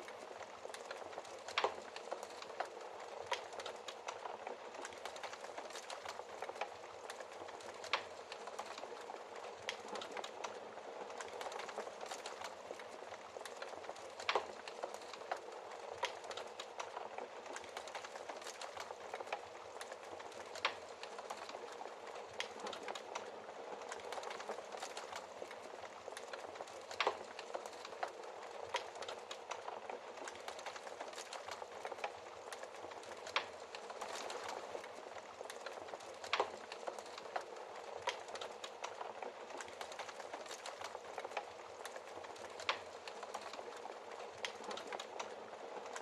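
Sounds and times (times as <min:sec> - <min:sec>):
fire popping: 0:00.0 - 0:46.0
wood fire crackling: 0:00.0 - 0:46.0.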